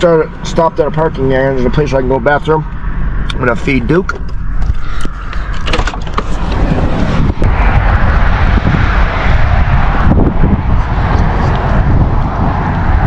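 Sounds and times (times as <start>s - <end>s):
highway traffic rumble: 0.0s - 13.0s
wind on microphone: 1.7s - 13.0s.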